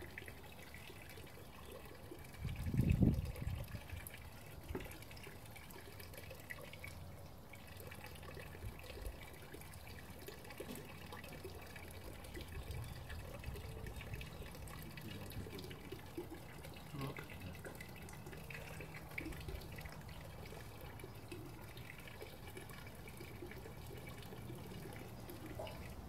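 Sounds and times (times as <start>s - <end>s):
water trickling and splashing into drum: 0.0s - 26.0s.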